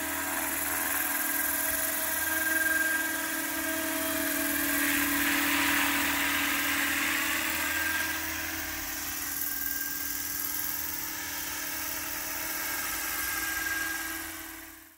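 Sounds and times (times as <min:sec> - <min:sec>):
high drill-like drive whine: 0:00.0 - 0:14.9
model helicopter rotor hum: 0:00.0 - 0:14.9.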